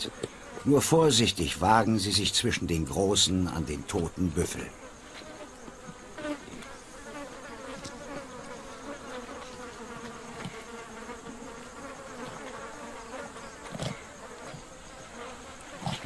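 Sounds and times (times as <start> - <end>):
flies buzzing: 0.0 - 16.0.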